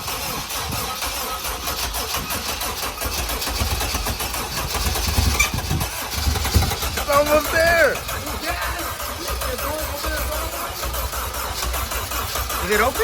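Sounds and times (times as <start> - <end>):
starter cranking engine: 0.0 - 13.0.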